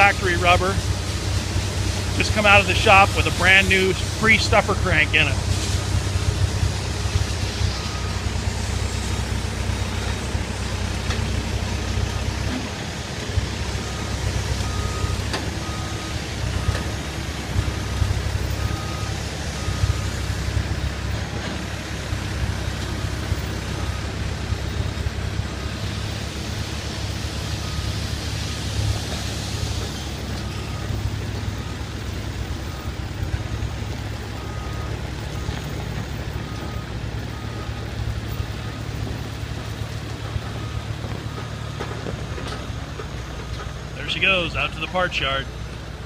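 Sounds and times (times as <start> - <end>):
engine droning: 0.0 - 46.0.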